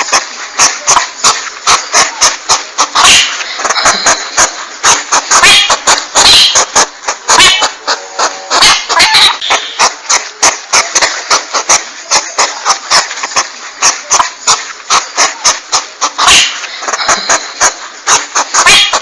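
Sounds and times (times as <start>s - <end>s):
hedgehog clicks and squeals: 0.1s - 19.0s.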